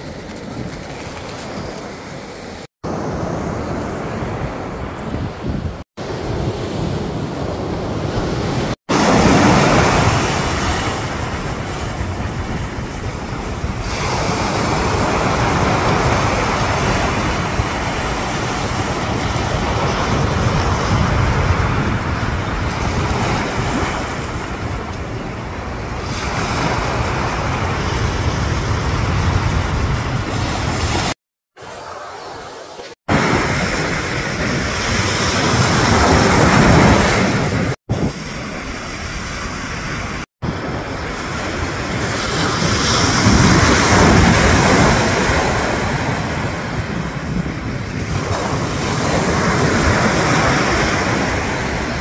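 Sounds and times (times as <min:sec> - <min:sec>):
wind rumbling on microphone: 0:00.0 - 0:31.2, 0:33.1 - 0:52.0
surf washing on beach: 0:00.0 - 0:52.0.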